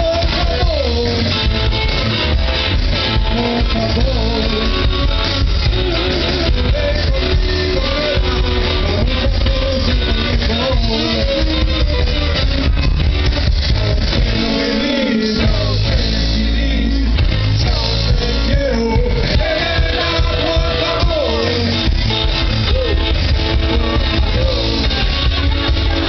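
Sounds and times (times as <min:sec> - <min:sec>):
live blues band: 0:00.0 - 0:26.0.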